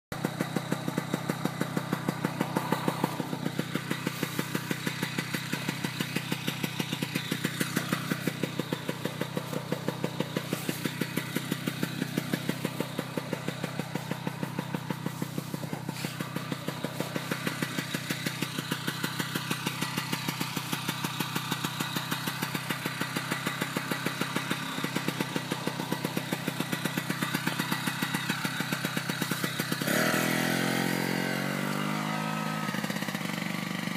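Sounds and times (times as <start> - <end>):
small engine idling: 0.1 - 33.9.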